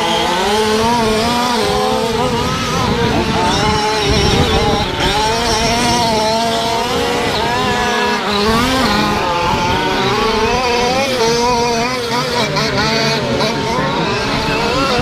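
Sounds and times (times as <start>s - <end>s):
small two-stroke engines revving: 0.0s - 15.0s.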